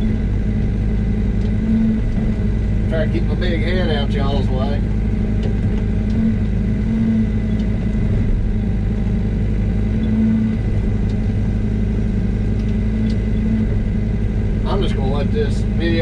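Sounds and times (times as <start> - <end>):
excavator diesel engine idling: 0.0 - 16.0.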